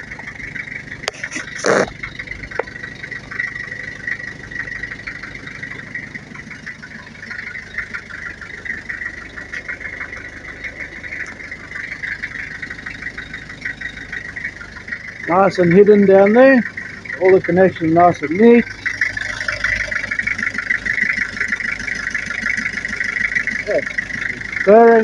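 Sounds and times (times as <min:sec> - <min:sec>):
van engine idling: 0:00.0 - 0:25.0.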